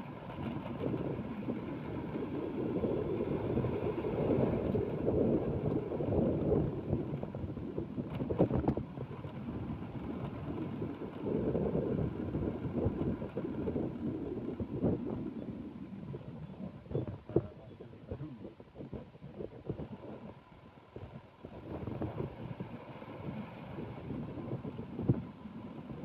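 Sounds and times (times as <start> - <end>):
motorcycle engine and tyre noise: 0.0 - 26.0
wind buffeting microphone: 0.0 - 26.0.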